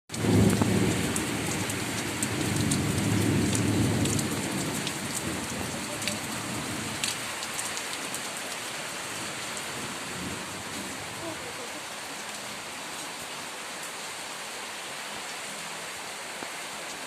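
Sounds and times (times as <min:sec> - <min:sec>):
heavy rain falling: 0:00.1 - 0:17.0.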